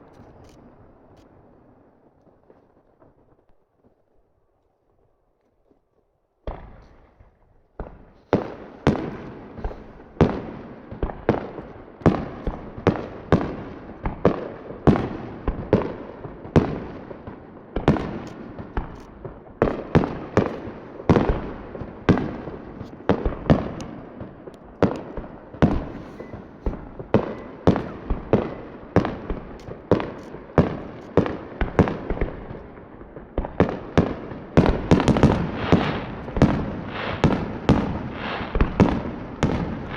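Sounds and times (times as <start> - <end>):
fireworks bursting: 6.5 - 39.9.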